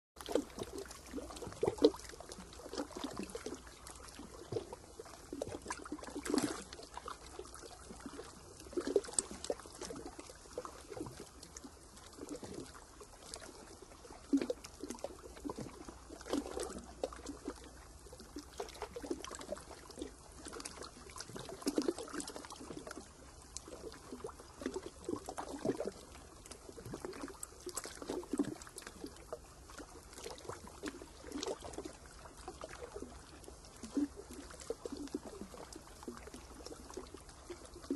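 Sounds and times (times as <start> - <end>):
water lapping and splashing: 0.2 - 37.9.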